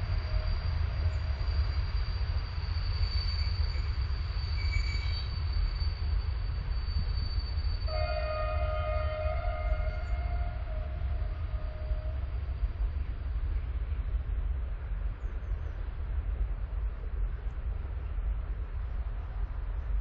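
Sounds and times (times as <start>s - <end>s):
train rumbling on tracks: 0.0s - 20.0s.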